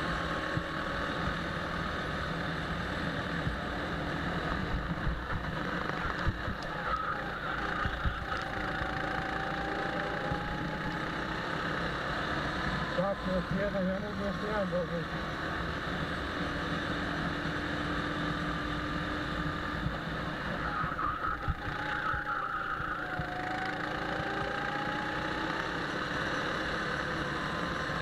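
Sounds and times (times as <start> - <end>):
go-kart engine running: 0.0 - 28.0
wind: 0.0 - 28.0.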